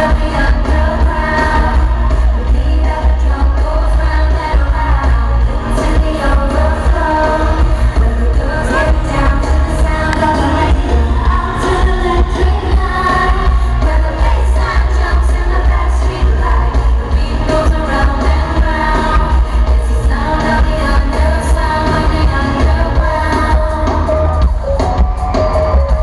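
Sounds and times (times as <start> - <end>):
female group vocals: 0.0 - 24.6
live band with booming bass: 0.0 - 26.0.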